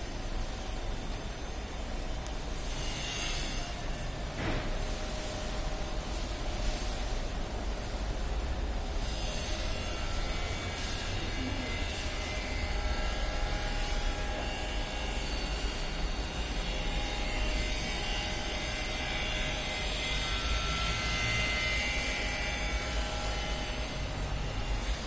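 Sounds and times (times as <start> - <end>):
cnc router whining: 0.1 - 25.0.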